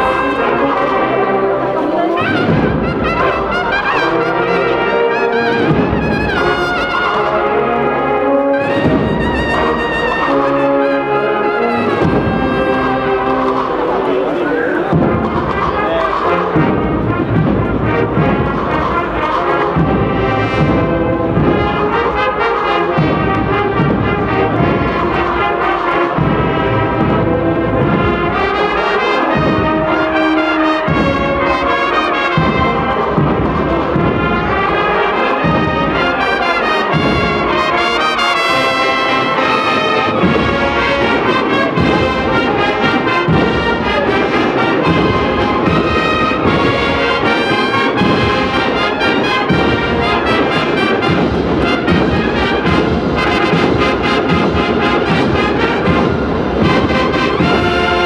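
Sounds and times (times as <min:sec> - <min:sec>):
brass band march: 0:00.0 - 0:58.0
steady drum rhythm: 0:00.0 - 0:58.0.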